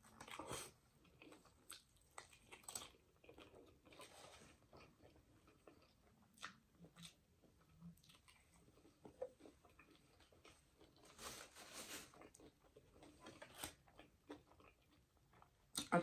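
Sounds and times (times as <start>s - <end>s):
person chewing food: 0.0s - 15.9s.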